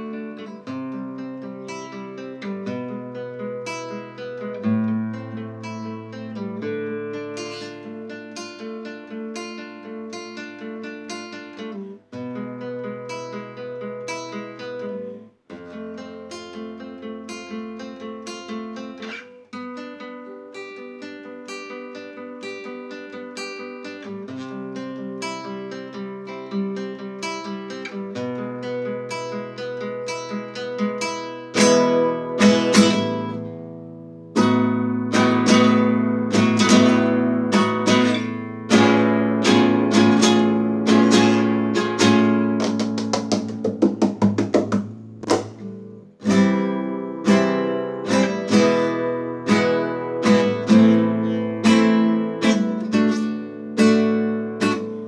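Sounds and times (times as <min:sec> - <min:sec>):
acoustic guitar: 0:00.0 - 0:55.0.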